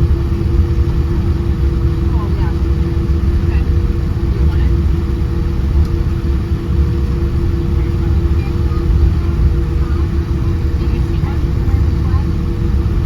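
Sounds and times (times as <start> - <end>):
aircraft engines rumbling in cabin: 0.0 - 13.0.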